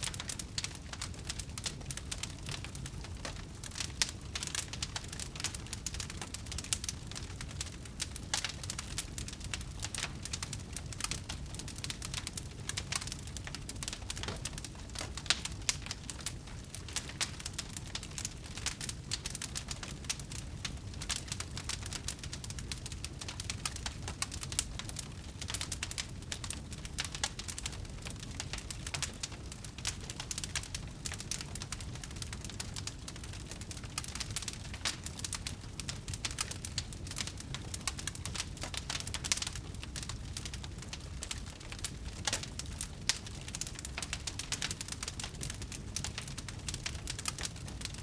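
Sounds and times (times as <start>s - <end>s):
fire popping: 0.0s - 48.0s
low rumble of flames: 0.0s - 48.0s
wood fire crackling: 0.0s - 48.0s.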